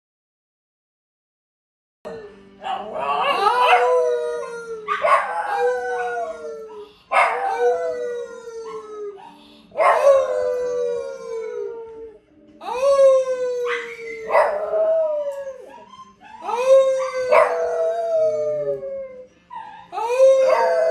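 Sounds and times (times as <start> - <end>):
small dog howling: 2.1 - 20.9.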